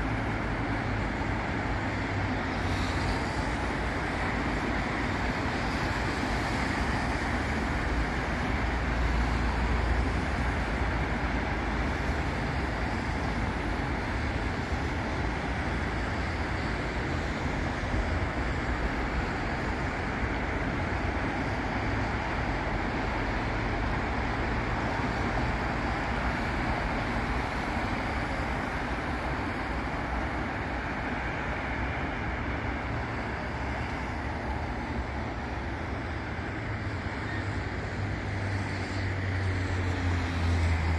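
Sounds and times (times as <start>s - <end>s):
city traffic rumble: 0.0s - 40.9s.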